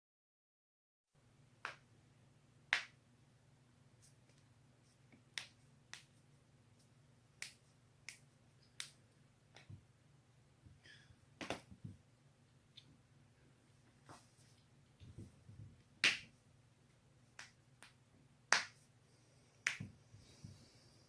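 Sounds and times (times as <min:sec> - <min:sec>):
faint steady hum: 0:01.2 - 0:21.0.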